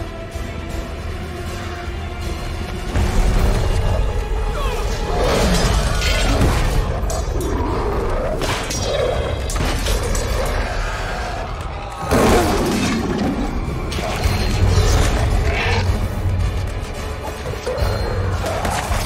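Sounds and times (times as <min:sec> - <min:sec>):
film battle music: 0:00.0 - 0:19.0.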